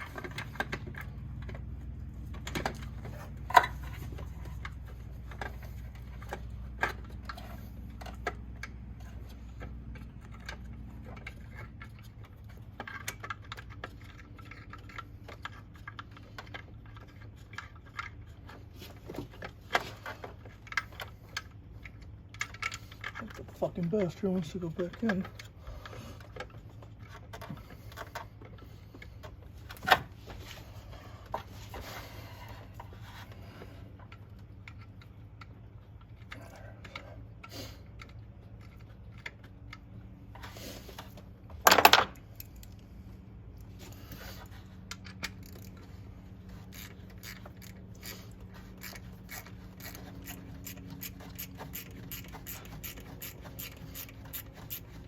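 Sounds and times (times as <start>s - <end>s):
tools scraping and clinking: 0.0s - 42.9s, 43.6s - 55.0s.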